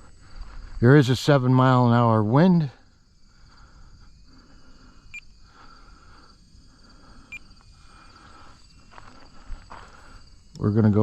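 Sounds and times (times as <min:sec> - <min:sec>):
high insect-like hiss: 0:00.0 - 0:11.0.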